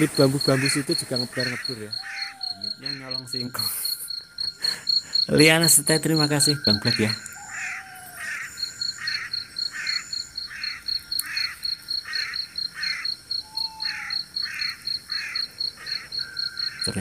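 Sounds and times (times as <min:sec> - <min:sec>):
high insect chirping pulse: 0:00.0 - 0:17.0
low rasping insect chirp: 0:00.0 - 0:17.0.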